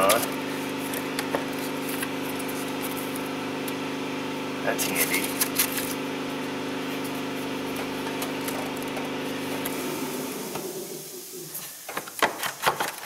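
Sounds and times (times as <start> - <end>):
machine hum winding down: 0.0 - 11.5.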